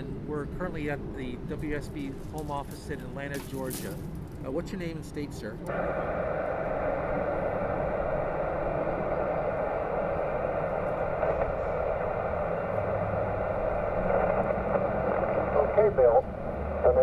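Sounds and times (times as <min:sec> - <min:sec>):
radio static hiss: 0:01.4 - 0:17.0.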